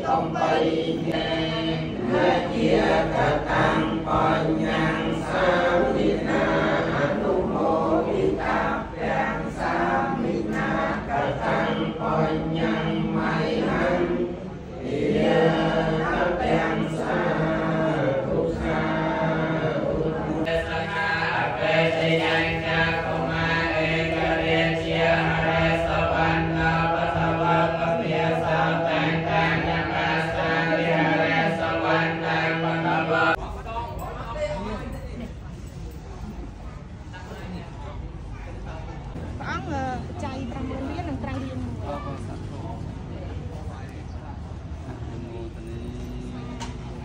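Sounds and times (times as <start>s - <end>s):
worshippers chanting prayers in unison: 0.0s - 35.0s, 44.4s - 47.0s.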